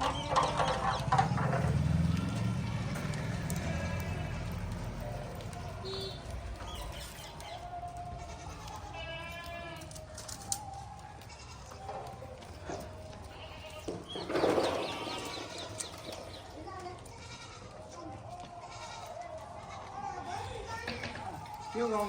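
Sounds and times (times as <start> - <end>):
goats bleating: 0.0 - 10.1, 11.1 - 22.0.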